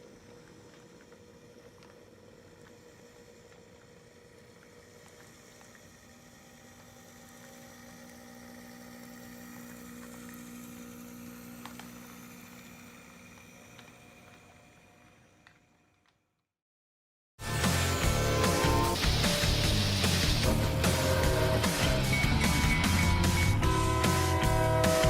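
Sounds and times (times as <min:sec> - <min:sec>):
model locomotive motor hum: 0:00.0 - 0:16.3, 0:17.6 - 0:25.0.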